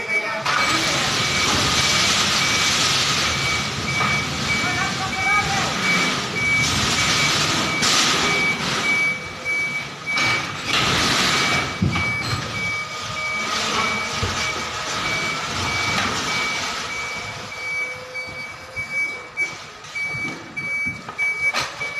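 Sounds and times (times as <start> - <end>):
truck engine running: 0.0 - 21.9
truck reversing alarm beeping: 0.0 - 21.9.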